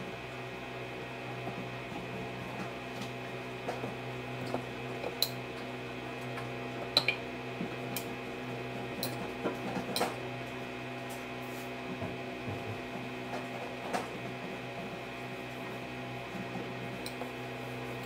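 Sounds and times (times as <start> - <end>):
washing machine hum: 0.0 - 18.0.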